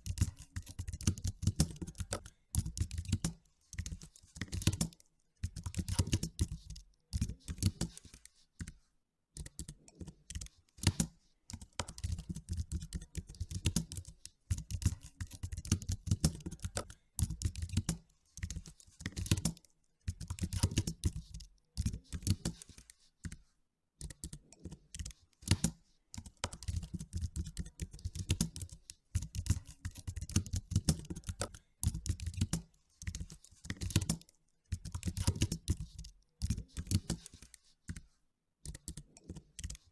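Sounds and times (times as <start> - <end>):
computer keyboard typing: 0.0 - 23.4, 24.0 - 39.9.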